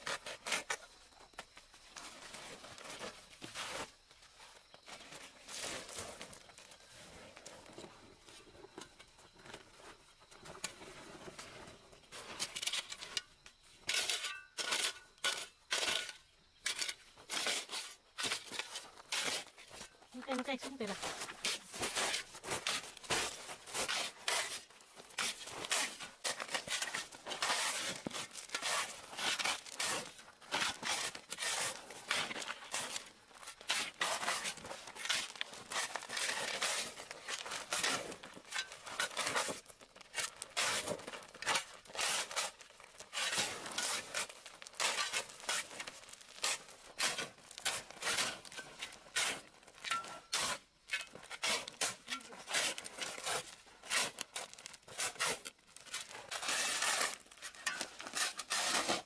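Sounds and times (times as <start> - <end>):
rustling and scraping strokes: 0.0 - 59.0.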